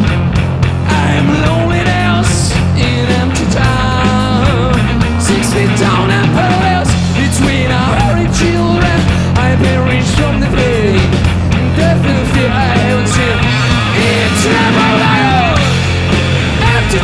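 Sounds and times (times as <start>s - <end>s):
distorted electric guitars: 0.0s - 17.0s
drum kit: 0.0s - 17.0s
electric bass: 0.0s - 17.0s
man singing: 0.8s - 15.8s, 16.6s - 17.0s.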